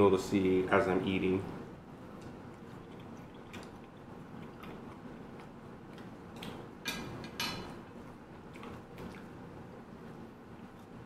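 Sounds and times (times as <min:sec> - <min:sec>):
soft chewing: 0:02.0 - 0:11.0.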